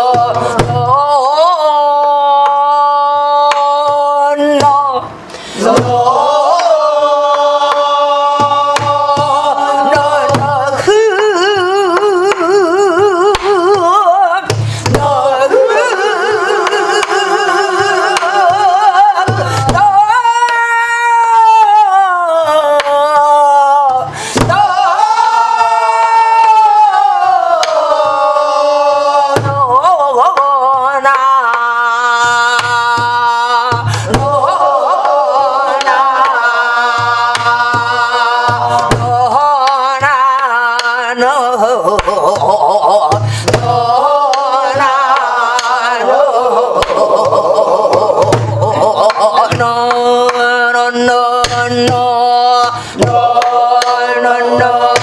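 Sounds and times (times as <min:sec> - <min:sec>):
woman singing wordless melody: 0:00.0 - 0:06.8, 0:07.6 - 0:24.9, 0:29.2 - 0:36.3, 0:37.2 - 0:55.0.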